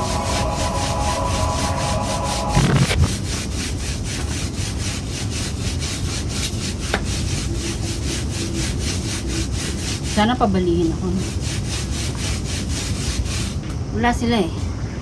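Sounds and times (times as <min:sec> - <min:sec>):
brush scrubbing rag on tiles: 0:00.0 - 0:13.6.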